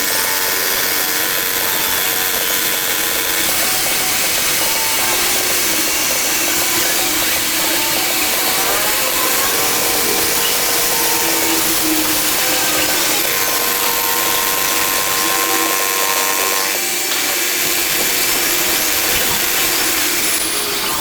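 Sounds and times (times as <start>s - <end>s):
power tool machining metal: 0.0s - 21.0s.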